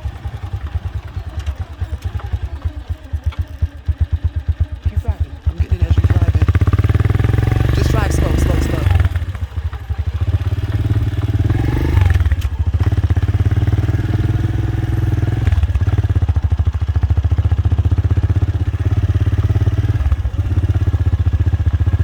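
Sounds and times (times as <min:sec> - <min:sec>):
vehicle engine pulsing: 0:00.0 - 0:22.0.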